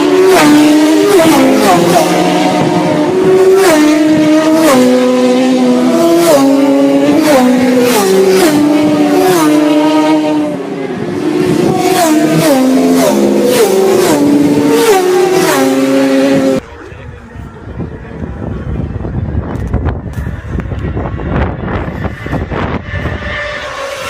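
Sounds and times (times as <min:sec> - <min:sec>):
motorcycle engine at high revs: 0:00.0 - 0:16.6, 0:20.0 - 0:24.0.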